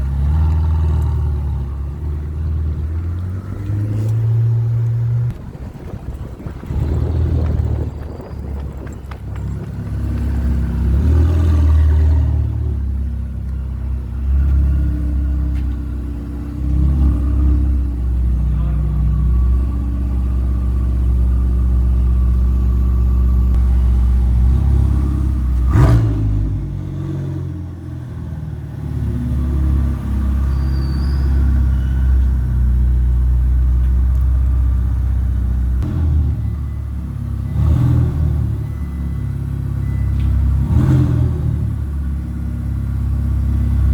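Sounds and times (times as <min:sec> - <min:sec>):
sports car engine running at low revs: 0:00.0 - 0:30.1, 0:32.7 - 0:43.9.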